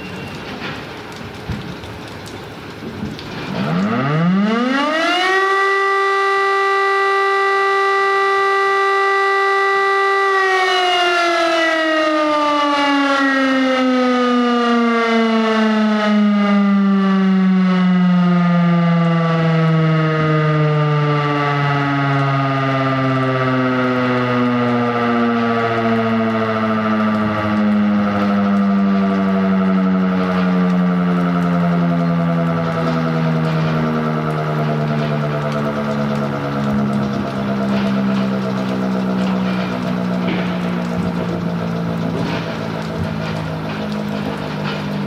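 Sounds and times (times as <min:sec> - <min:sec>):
civil defence siren winding: 0:03.2 - 0:45.0.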